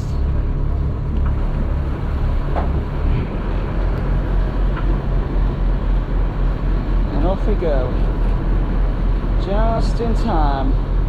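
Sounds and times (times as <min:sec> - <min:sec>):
ferry engine rumbling: 0:00.0 - 0:11.0.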